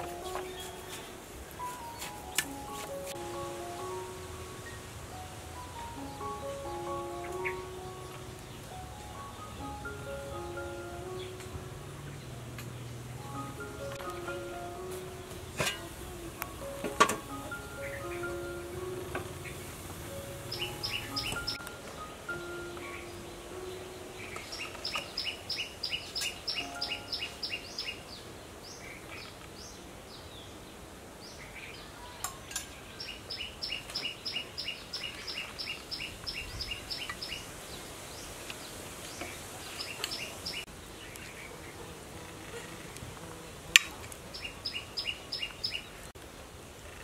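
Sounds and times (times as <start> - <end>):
bird chirping: 0.0 - 30.6, 31.2 - 41.9, 44.3 - 46.1
outdoor background: 0.0 - 47.0.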